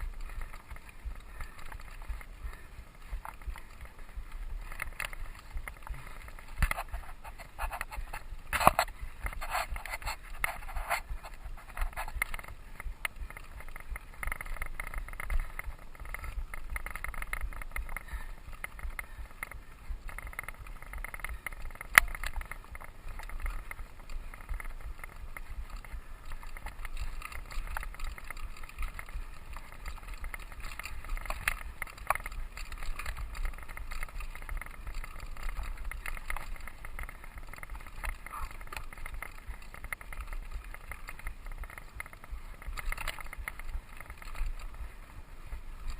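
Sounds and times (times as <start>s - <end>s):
bike rattles and clicks: 0.0s - 45.9s
bike tyre and wind noise: 0.0s - 45.9s.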